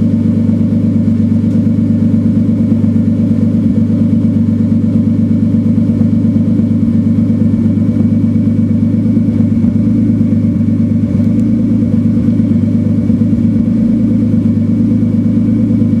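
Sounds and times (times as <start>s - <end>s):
engine idling with misfire: 0.0s - 16.0s.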